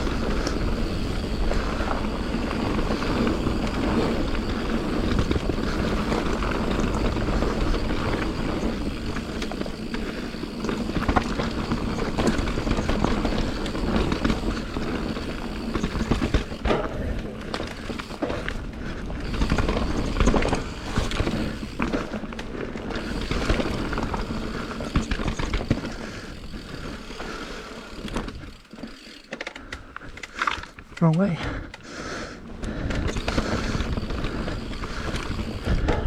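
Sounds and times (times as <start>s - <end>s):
bike knocks and rattles: 0.0s - 26.6s, 32.6s - 36.0s
bike tyres on dirt: 0.0s - 36.0s.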